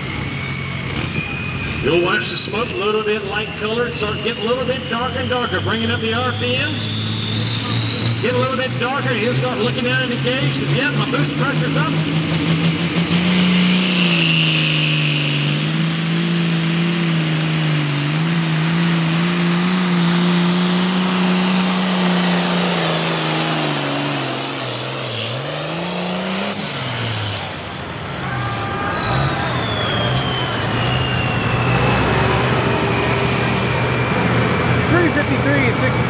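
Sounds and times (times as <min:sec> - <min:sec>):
turbo whine: 0:00.0 - 0:35.9
diesel engine at high revs: 0:00.0 - 0:36.0.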